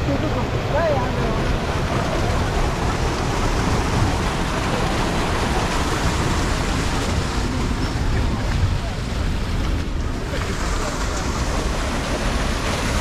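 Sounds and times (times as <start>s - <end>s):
rain: 0.0s - 13.0s
runoff water pouring into ditch: 0.0s - 13.0s.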